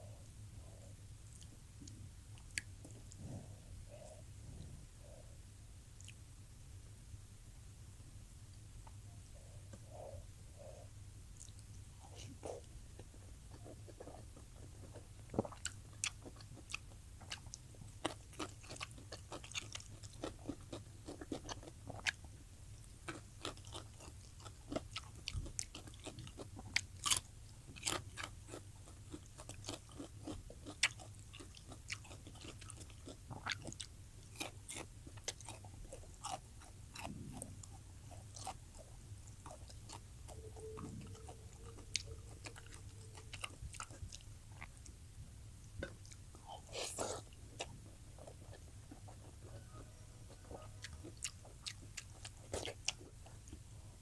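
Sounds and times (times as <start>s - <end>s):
chewing with mouth smacks: 1.3s - 4.2s, 6.0s - 6.2s, 9.6s - 45.0s, 45.8s - 53.7s.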